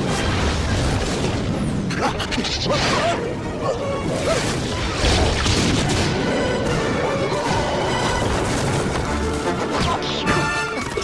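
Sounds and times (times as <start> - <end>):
dramatic orchestral music: 0.0 - 11.0.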